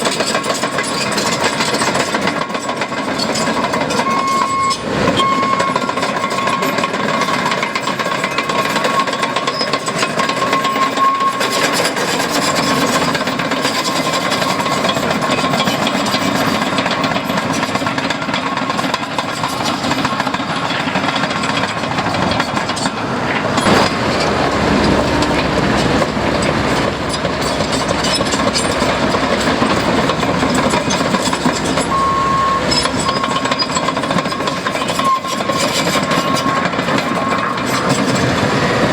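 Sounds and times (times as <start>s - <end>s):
diesel engines rumbling: 0.0s - 38.9s.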